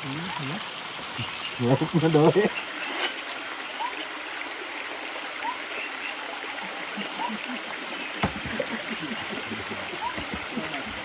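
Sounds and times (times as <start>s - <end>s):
flowing water: 0.0s - 11.0s.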